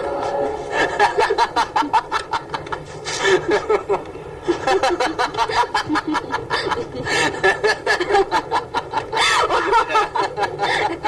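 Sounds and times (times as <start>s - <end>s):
woman laughing: 0.7s - 11.0s.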